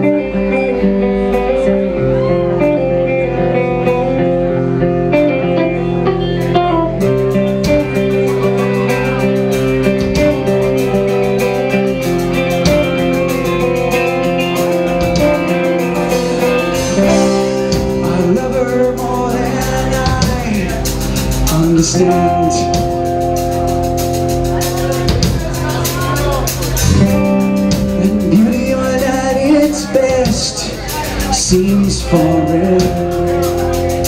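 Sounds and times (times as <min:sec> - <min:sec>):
guitar: 0:00.0 - 0:34.0
live band playing: 0:00.0 - 0:34.0.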